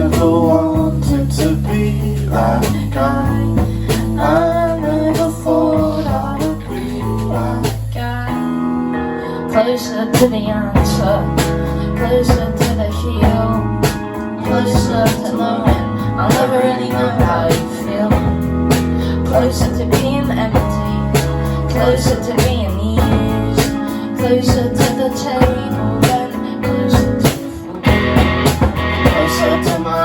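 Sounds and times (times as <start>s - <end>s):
steady drum beat: 0.0s - 8.1s, 12.3s - 30.0s
low bass notes: 0.0s - 9.2s, 10.2s - 30.0s
guitar: 0.0s - 30.0s.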